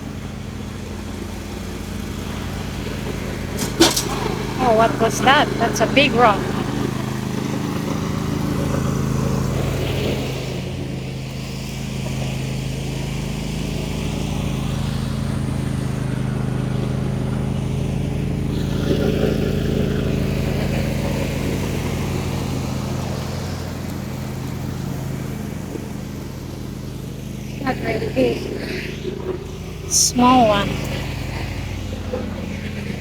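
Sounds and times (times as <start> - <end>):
riding mower mowing: 0.0 - 33.0.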